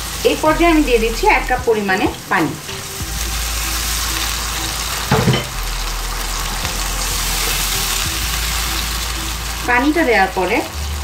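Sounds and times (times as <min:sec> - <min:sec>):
oil sizzling and hissing in pan: 0:00.0 - 0:11.0.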